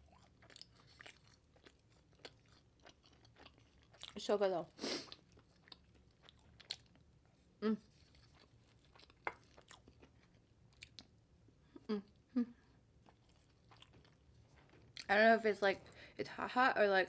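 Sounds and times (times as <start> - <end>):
mouth chewing food: 0.0 - 15.2.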